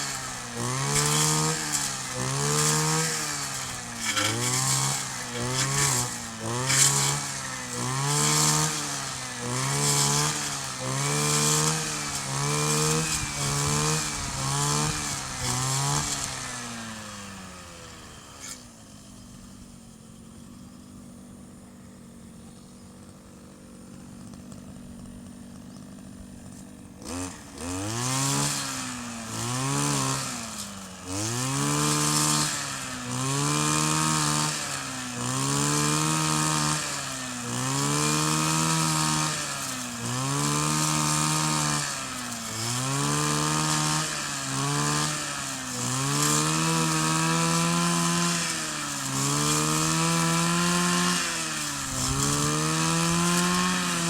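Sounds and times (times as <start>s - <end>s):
brush cutter engine revving: 0.0s - 54.0s.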